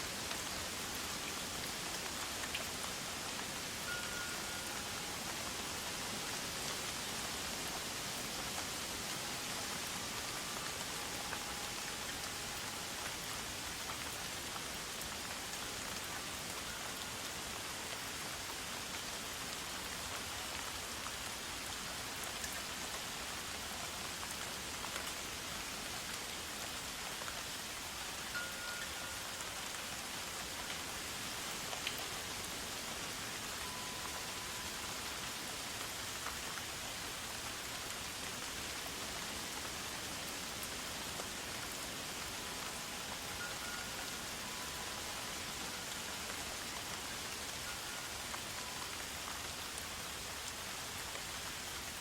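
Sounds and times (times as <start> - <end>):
forest ambience hiss: 0.0 - 52.0.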